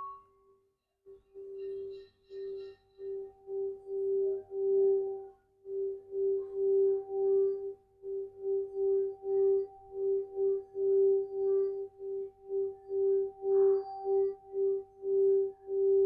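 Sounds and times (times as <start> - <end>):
singing bowl tone: 0.0 - 0.4, 1.1 - 16.0.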